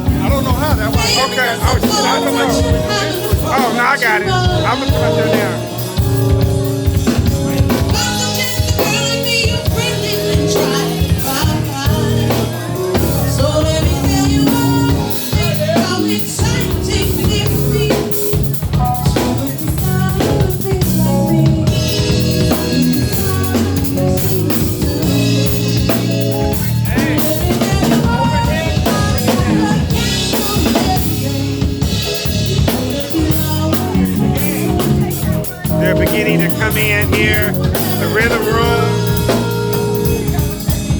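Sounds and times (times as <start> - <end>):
drum kit kick snare and rimshots: 0.0 - 40.9
live band playing: 0.0 - 40.9.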